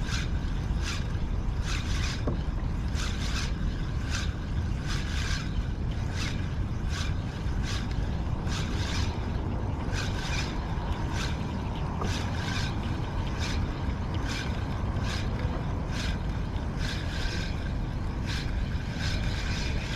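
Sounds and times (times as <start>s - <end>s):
steady low rumble: 0.0s - 19.9s.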